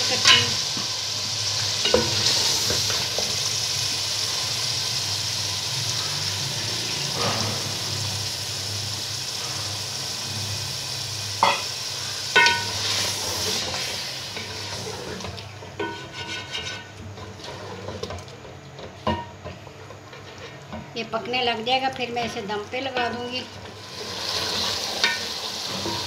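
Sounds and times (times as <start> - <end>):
gravy sizzling in pot: 0.0 - 26.0.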